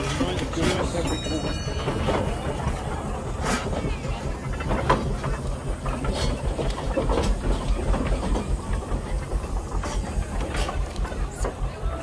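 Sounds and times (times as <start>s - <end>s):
steam engine rhythmic beat: 0.0s - 12.0s.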